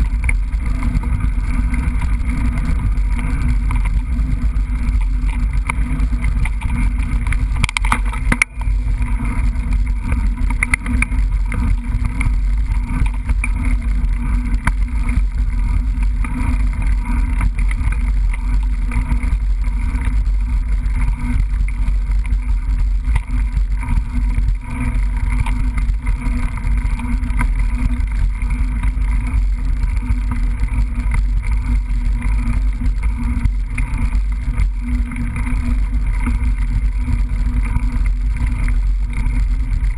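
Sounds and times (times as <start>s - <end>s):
bike riding rumble: 0.0s - 39.9s.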